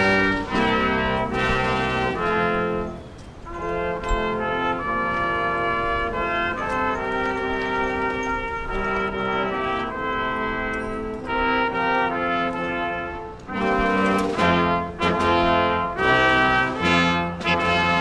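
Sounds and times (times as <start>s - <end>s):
brass-like chords: 0.0s - 18.0s.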